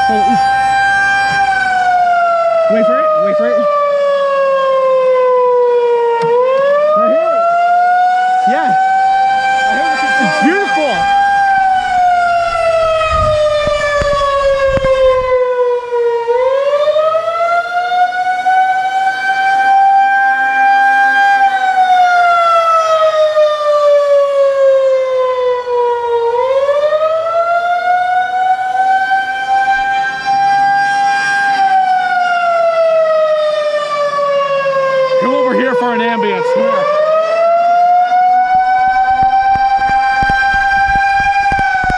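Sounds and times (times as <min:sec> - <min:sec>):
outdoor warning siren wailing: 0:00.0 - 0:41.9.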